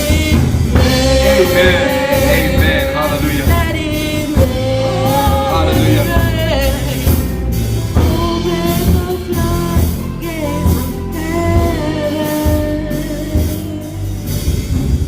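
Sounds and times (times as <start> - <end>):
sustained singing: 0.0 - 13.2
band with drums and bass: 0.0 - 15.0.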